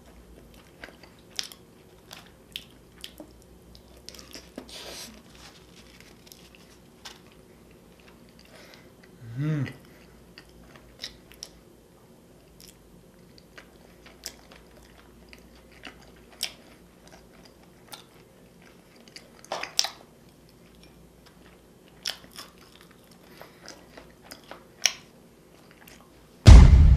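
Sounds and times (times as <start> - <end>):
chewing: 0.0 - 11.7, 12.3 - 26.3.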